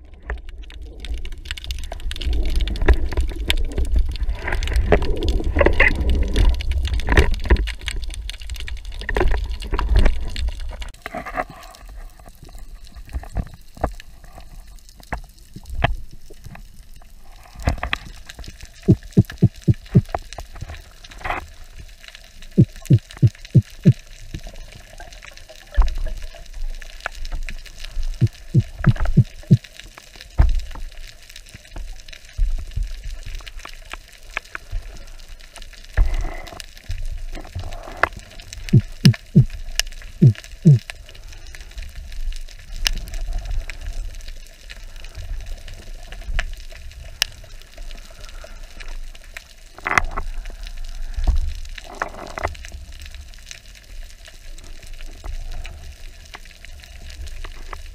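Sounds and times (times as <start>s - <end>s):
underwater crackle and hiss: 0.0s - 57.9s.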